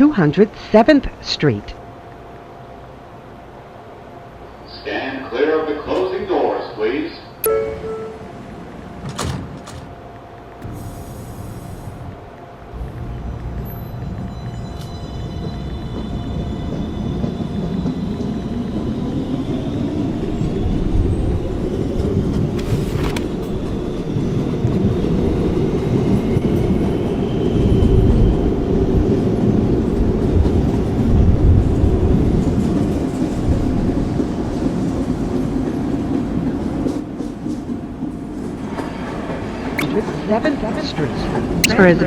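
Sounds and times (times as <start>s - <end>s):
subway train wheels rumbling: 0.0s - 42.0s.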